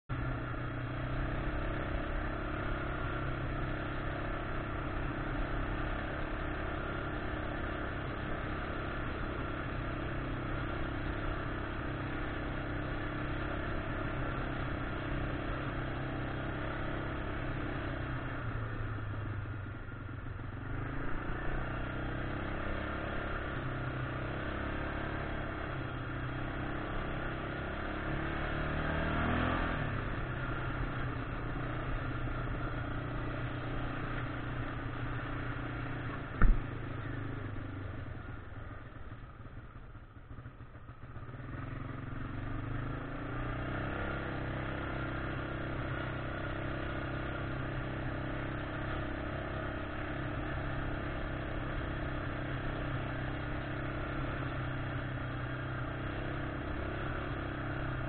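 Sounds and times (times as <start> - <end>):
atv engine running: 0.1 - 58.0.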